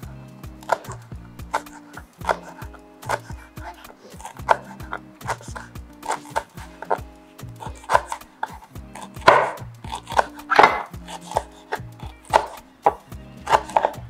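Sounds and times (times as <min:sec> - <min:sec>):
knife chopping on cutting board: 0:00.5 - 0:14.0.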